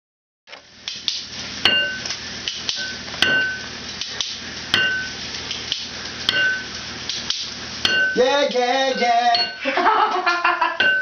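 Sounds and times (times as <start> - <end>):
metal cookware struck in a beat: 1.6 - 11.0.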